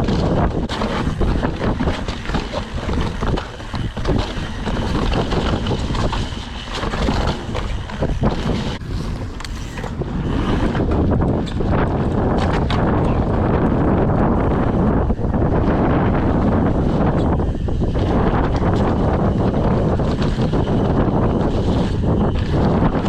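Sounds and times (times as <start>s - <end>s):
tyres on dirt trail: 0.0s - 23.0s
wind buffeting camera: 0.0s - 23.0s.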